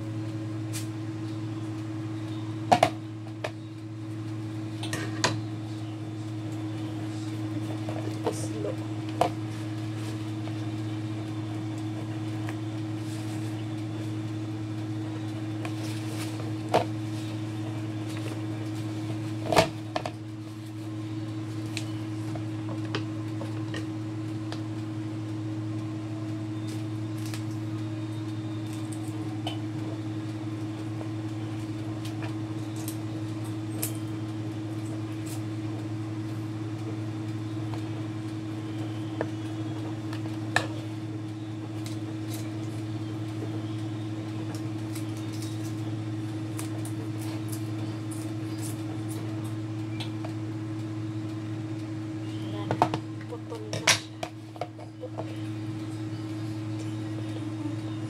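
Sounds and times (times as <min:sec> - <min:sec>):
appliance motor hum: 0:00.0 - 0:58.0.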